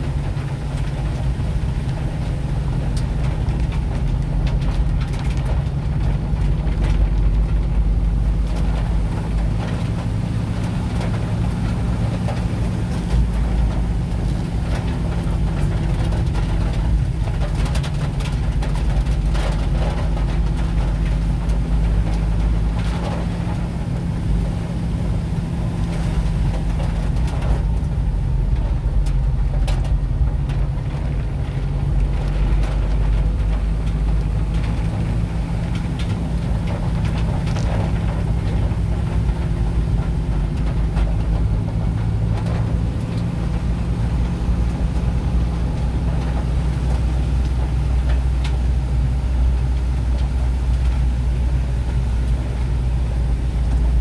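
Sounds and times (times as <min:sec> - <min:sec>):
engine and road rumble: 0:00.0 - 0:54.0
tyre noise on wet road: 0:00.0 - 0:54.0.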